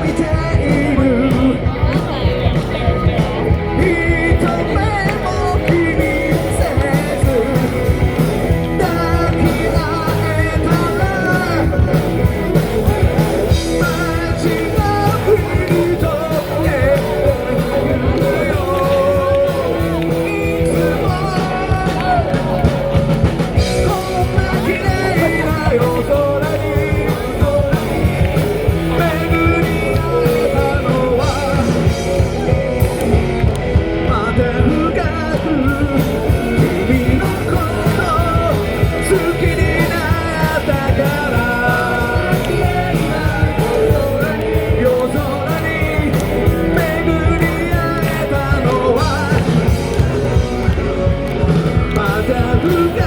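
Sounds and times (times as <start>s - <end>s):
lead singer singing: 0.0s - 53.0s
live rock band playing: 0.0s - 53.0s.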